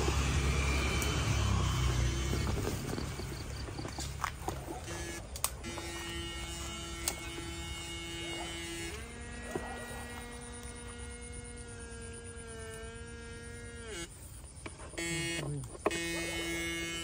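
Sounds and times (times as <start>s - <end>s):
electric buzz: 0.0s - 17.0s.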